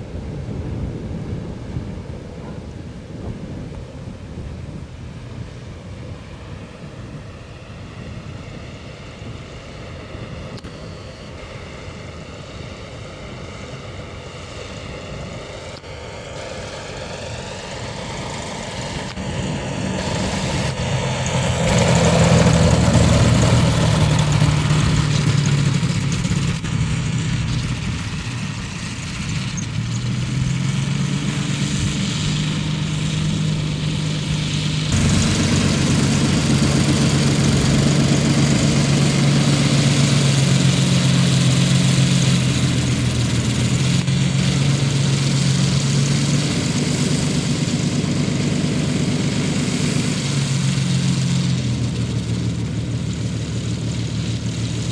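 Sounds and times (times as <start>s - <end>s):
model plane engine and propeller: 0.0s - 54.9s.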